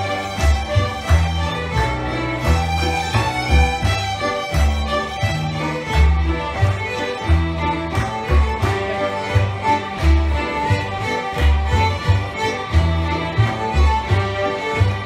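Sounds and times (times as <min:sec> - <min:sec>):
fiddles playing lively tune: 0:00.0 - 0:15.0.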